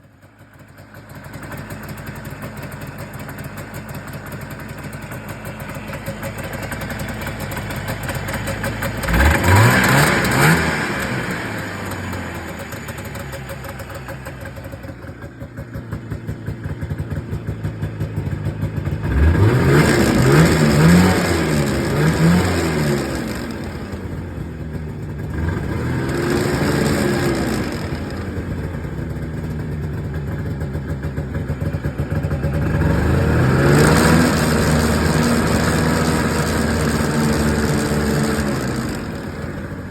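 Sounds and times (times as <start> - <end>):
snowmobile engine idling and revving: 0.0 - 39.9.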